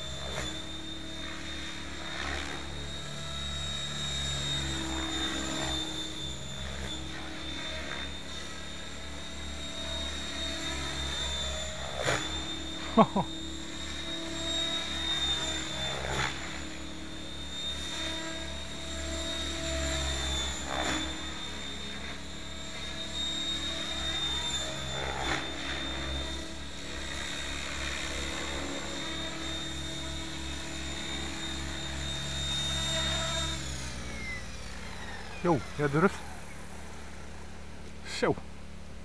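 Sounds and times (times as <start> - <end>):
helicopter rotor drone: 0.0 - 39.0
rc helicopter motor whine: 0.0 - 39.0.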